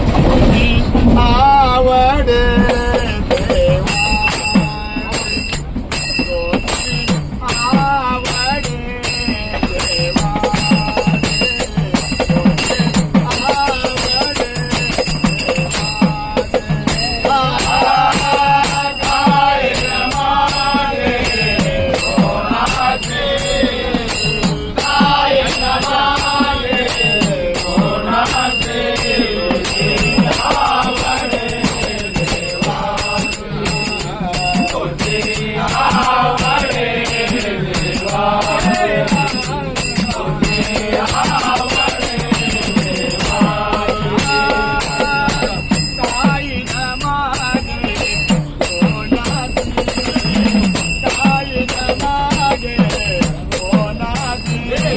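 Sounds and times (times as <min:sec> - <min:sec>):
drum beating steady rhythm: 0:00.0 - 0:54.9
small cymbals ringing: 0:03.4 - 0:54.9.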